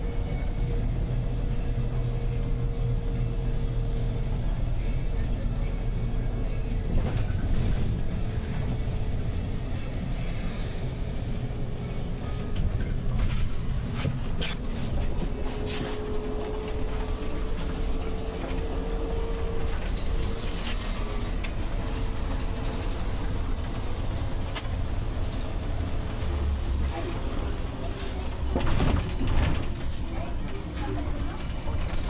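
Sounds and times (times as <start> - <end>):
bus drivetrain and tyres rumbling: 0.0 - 32.0.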